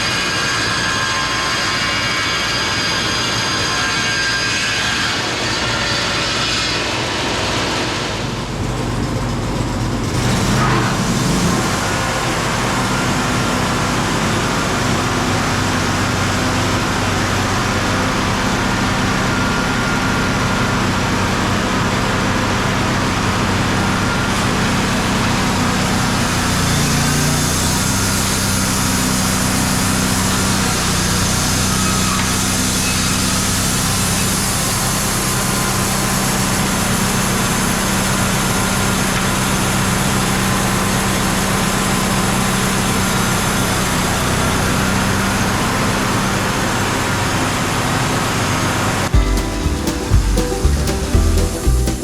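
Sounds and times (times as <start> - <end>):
sawmill engine drone: 0.0 - 52.0.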